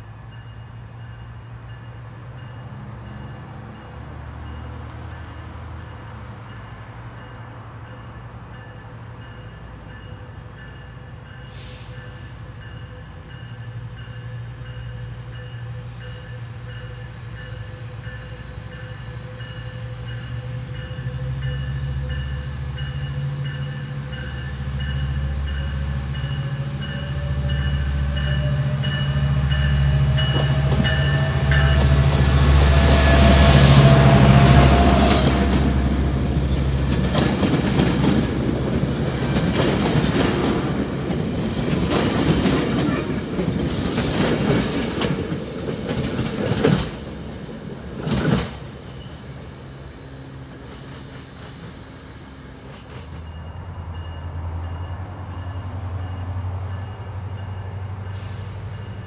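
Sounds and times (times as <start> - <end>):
diesel locomotive engine drone: 0.0 - 59.0
train rail noise: 0.0 - 59.0.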